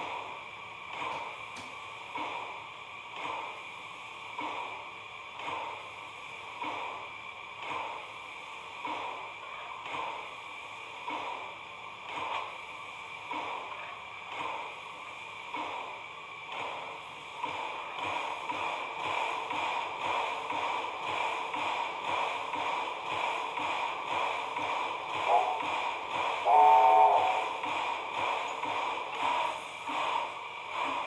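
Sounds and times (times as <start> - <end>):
model locomotive motor and gear hum: 0.0 - 31.0.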